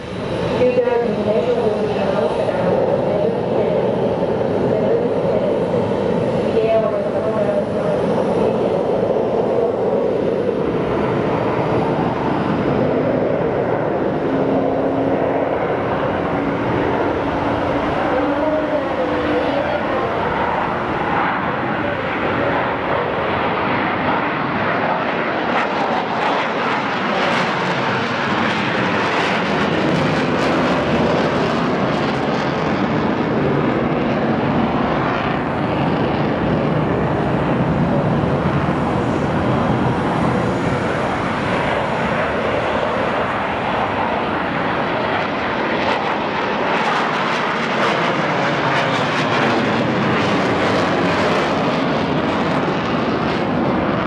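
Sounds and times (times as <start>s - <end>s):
jet engines roaring: 0.0s - 54.0s
thin high engine whine: 0.0s - 54.0s.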